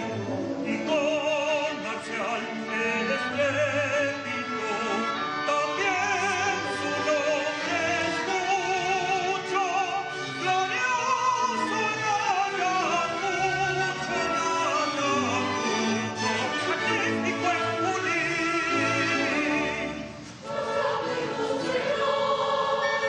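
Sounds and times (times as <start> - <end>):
operatic singing with vibrato: 0.0 - 23.0
orchestral accompaniment: 0.0 - 23.0.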